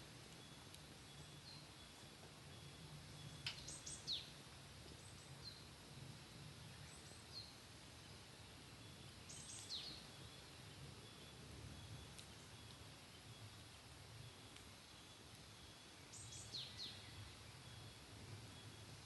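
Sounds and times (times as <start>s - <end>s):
outdoor background noise: 0.0s - 19.0s
faint bird chirps: 0.3s - 5.7s, 6.7s - 19.0s.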